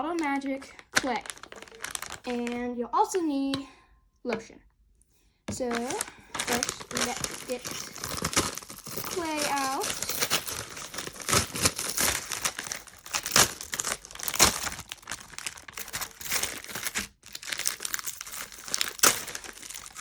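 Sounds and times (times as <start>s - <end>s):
packaging crinkling and tearing: 0.0s - 2.6s, 5.6s - 20.0s.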